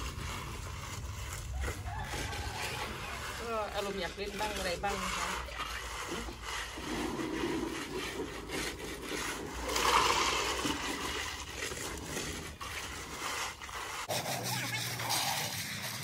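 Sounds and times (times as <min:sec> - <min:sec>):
trowel scraping wet concrete: 0:00.0 - 0:16.0.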